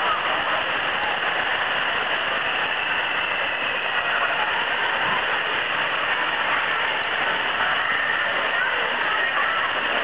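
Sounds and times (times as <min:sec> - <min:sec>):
rushing of falling water: 0:00.0 - 0:10.0.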